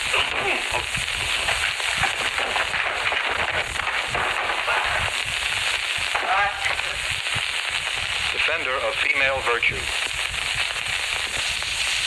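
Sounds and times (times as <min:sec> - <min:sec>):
old film crackle and hiss: 0:00.0 - 0:12.0.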